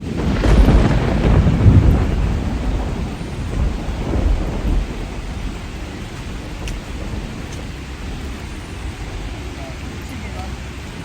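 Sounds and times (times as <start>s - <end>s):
deep thunder rumble: 0.0s - 11.0s
rain hissing: 0.0s - 11.0s.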